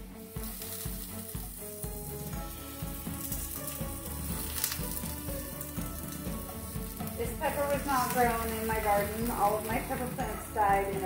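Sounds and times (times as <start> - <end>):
background music with steady beat: 0.0 - 11.0
peppers sizzling in a skillet: 0.0 - 11.0.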